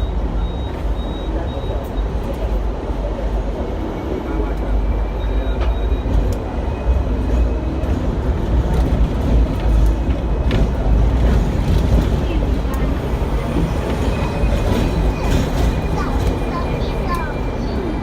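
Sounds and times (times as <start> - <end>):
tram running on rails: 0.0 - 18.0.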